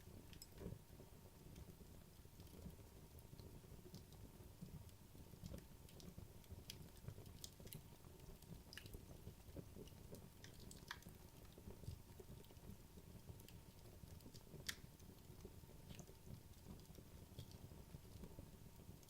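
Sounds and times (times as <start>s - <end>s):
logs crackling in a fireplace: 0.0s - 19.0s
soft flame rustle: 0.0s - 19.0s.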